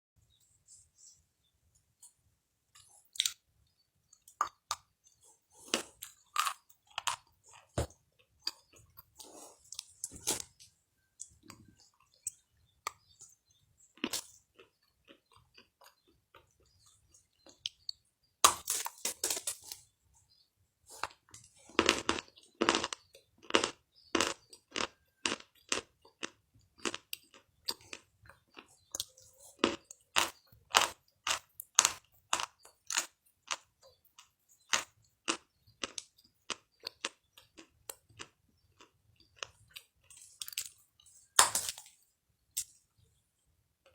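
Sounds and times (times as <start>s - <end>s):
person chewing crunchy food: 4.1s - 19.9s, 20.9s - 42.0s.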